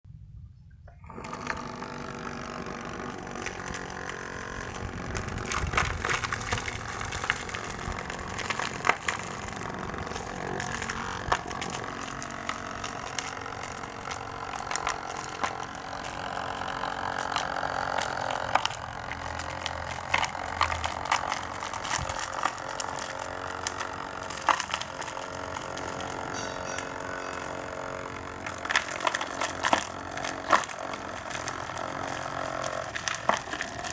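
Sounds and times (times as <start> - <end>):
rotavator engine hum: 0.4 - 33.9
tines grinding through soil: 1.0 - 33.9.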